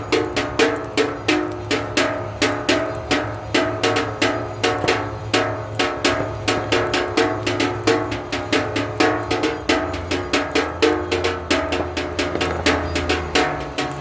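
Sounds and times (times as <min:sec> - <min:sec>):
rhythmic percussive strikes: 0:00.0 - 0:14.0.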